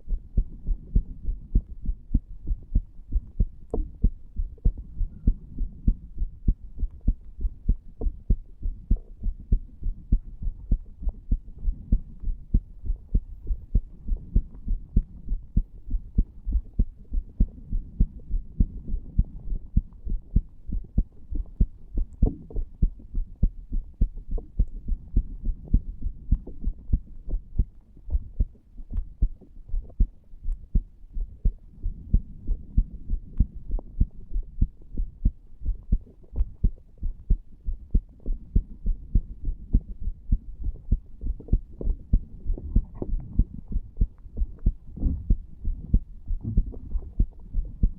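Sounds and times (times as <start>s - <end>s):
heart beating: 0.0s - 47.9s.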